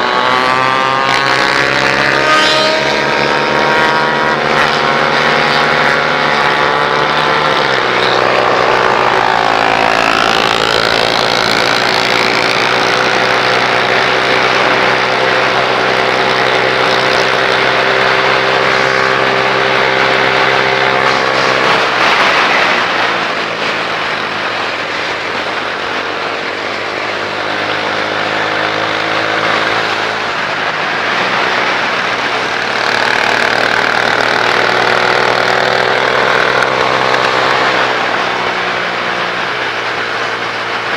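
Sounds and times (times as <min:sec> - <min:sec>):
motorcycle engines running: 0:00.0 - 0:40.9.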